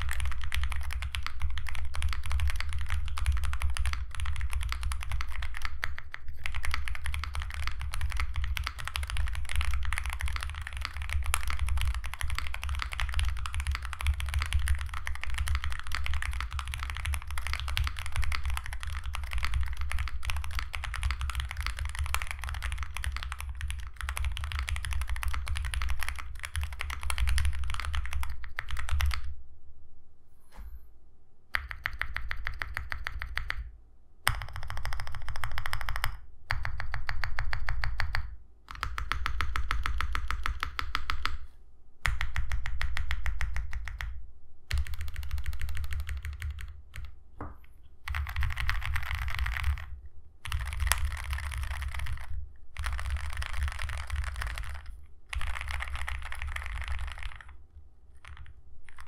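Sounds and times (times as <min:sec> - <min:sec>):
fast typing on mechanical keyboard: 0:00.0 - 0:29.3, 0:31.5 - 0:33.6, 0:34.3 - 0:41.4, 0:42.0 - 0:47.1, 0:48.0 - 0:57.6, 0:58.2 - 0:59.0.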